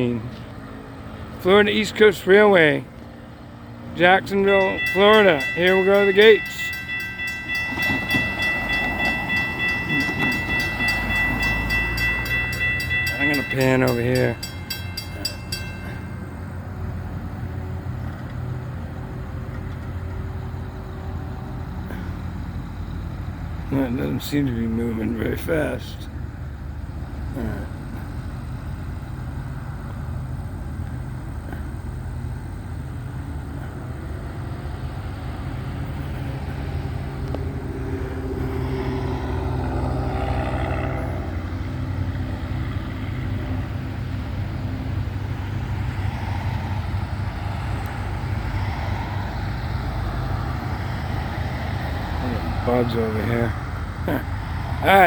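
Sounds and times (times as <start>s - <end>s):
diesel locomotive rumble: 0.0s - 55.0s.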